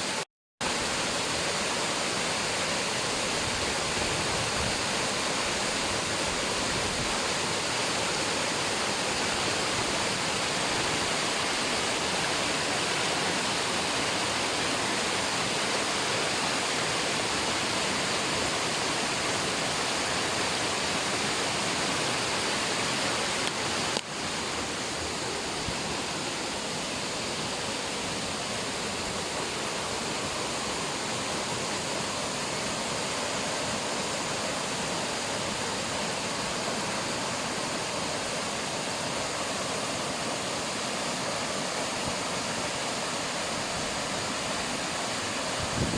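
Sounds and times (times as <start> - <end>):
waterfall rushing water: 0.0 - 45.9.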